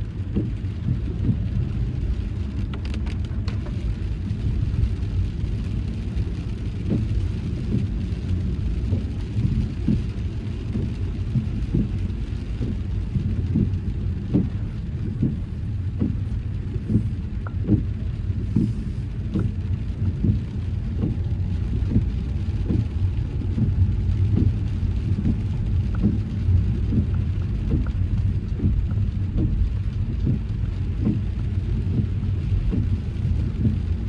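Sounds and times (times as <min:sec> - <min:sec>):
raindrops tapping on car: 0:00.0 - 0:34.0
road and engine rumble: 0:00.0 - 0:34.0.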